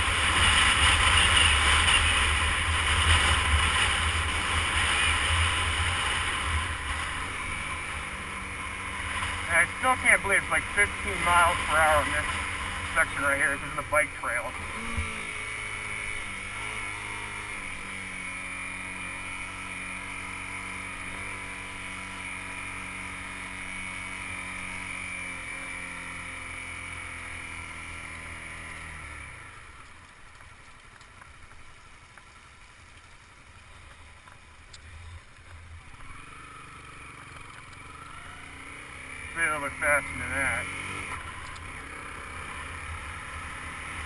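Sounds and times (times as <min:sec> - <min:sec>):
motorcycle engine cruising: 0:00.0 - 0:44.0
road noise: 0:00.0 - 0:44.0.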